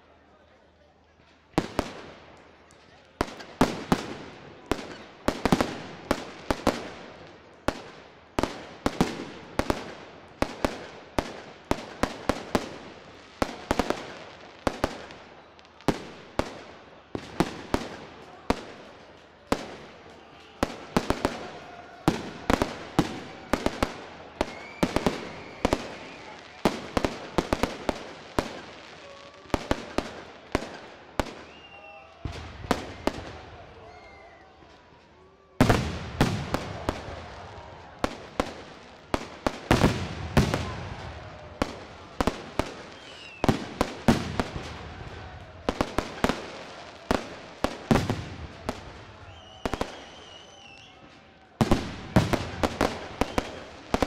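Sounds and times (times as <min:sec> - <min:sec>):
fireworks bangs echoing: 0:03.2 - 0:33.8, 0:35.6 - 0:54.0.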